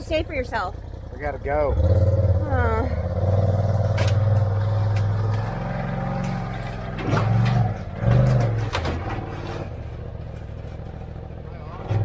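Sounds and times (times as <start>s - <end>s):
engine idling with throttle rises: 0.0s - 12.0s.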